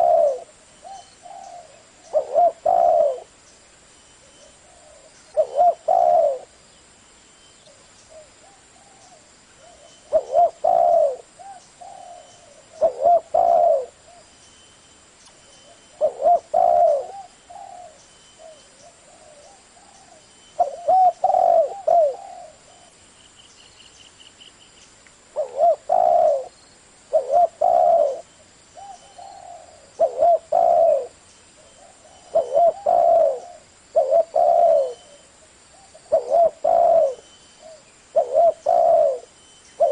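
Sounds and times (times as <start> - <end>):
dove cooing: 0.0 - 3.4, 4.2 - 6.6, 7.7 - 14.3, 15.6 - 23.0, 25.4 - 39.9.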